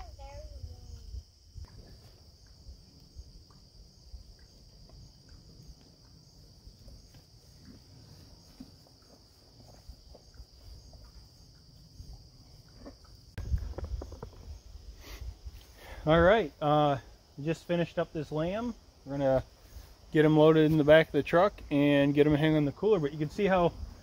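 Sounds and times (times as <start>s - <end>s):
insects chorus: 0.0s - 24.0s.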